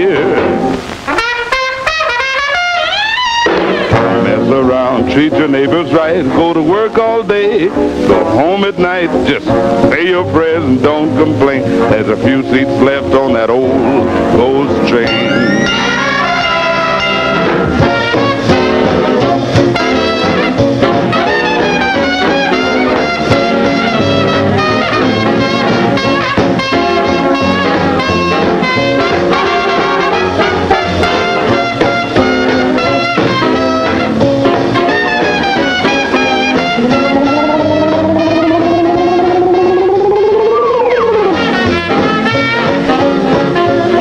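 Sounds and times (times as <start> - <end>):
swing big band playing: 0.0 - 44.0.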